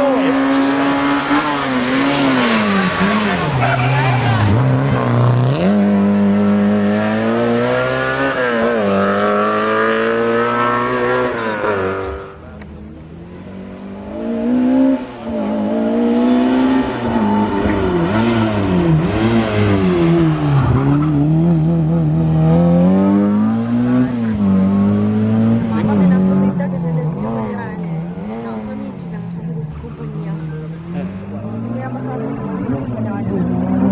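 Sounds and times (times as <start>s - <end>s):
rally car engine at full throttle: 0.0s - 33.9s.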